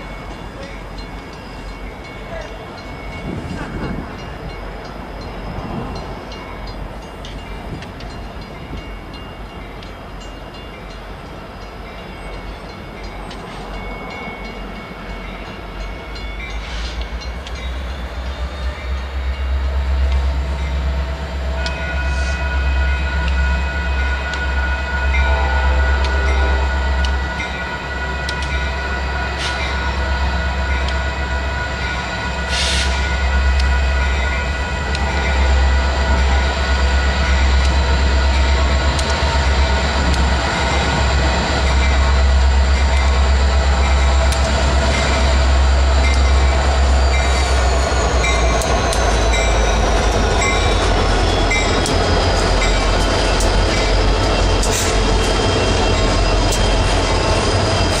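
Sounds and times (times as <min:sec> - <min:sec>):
diesel locomotive engine rumble: 0:00.0 - 0:58.0.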